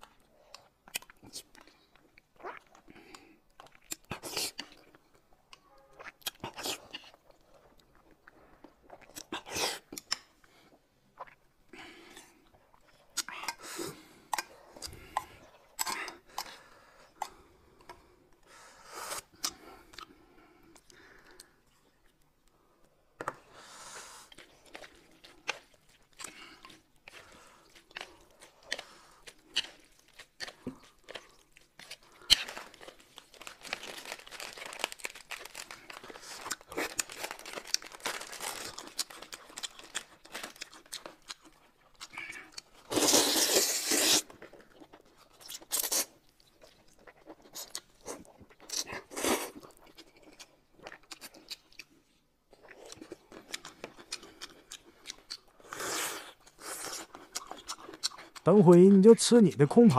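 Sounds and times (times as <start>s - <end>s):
crunching and chewing food: 0.0s - 59.9s.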